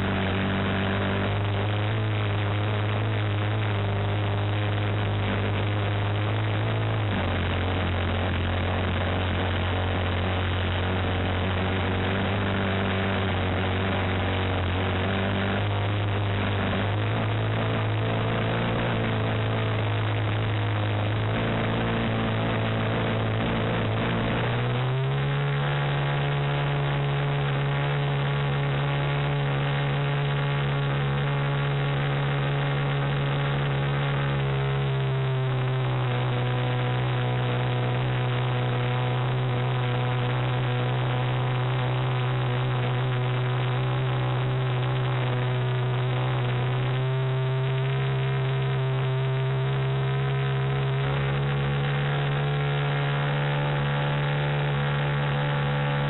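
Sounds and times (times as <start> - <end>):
model airplane engine and propeller: 0.0 - 56.0.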